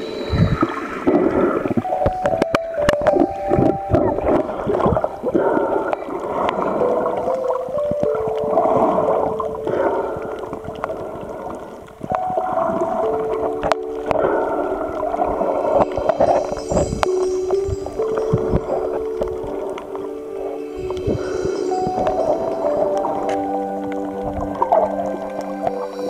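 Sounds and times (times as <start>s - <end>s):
whale song: 0.0s - 26.0s.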